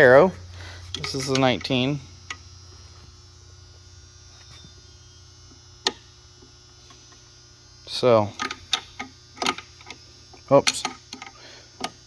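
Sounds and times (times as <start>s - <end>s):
low electrical mains hum: 0.0s - 12.0s.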